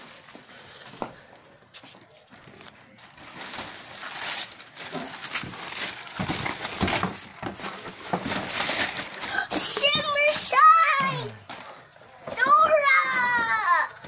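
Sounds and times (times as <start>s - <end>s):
wrapping paper tearing and crinkling: 0.0s - 0.6s, 1.8s - 14.0s.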